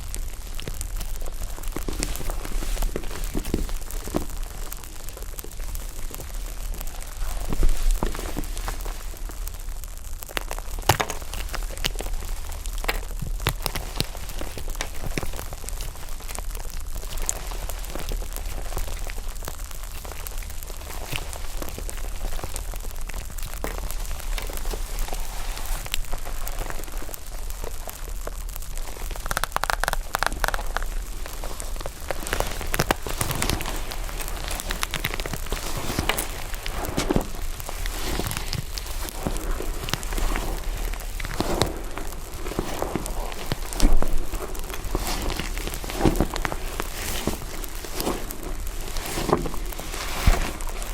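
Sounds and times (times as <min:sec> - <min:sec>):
foam slime crackling and popping: 0:00.0 - 0:50.9.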